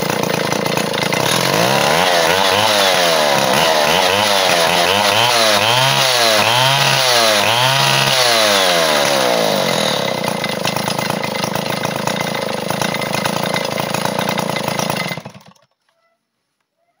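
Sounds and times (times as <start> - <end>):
chainsaw engine revving and idling: 0.0 - 15.8.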